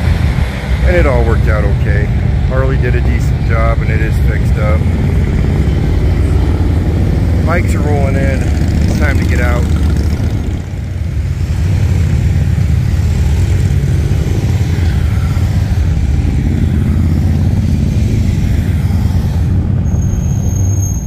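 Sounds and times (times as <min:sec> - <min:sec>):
high-pitched whine: 0:00.0 - 0:21.0
motorcycle engines rumbling: 0:00.0 - 0:21.0
road traffic: 0:00.0 - 0:21.0.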